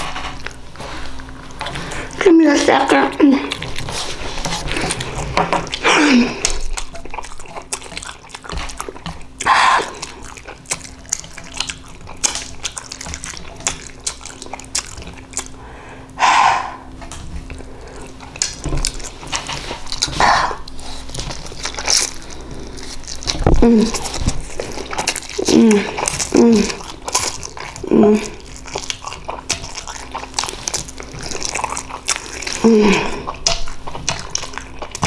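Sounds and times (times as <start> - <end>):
wet noodles squishing: 0.0 - 16.2, 16.9 - 35.0.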